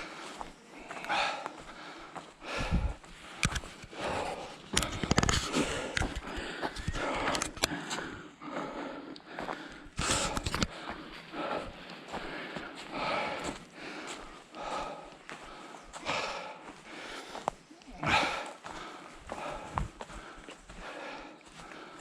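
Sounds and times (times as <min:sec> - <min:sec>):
footsteps and scuffs: 0:00.0 - 0:22.0
person breathing: 0:00.0 - 0:22.0.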